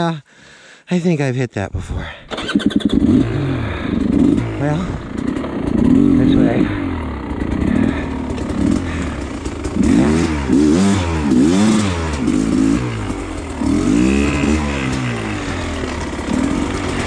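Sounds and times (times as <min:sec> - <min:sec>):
dirt bike engine revving: 0:02.4 - 0:17.0.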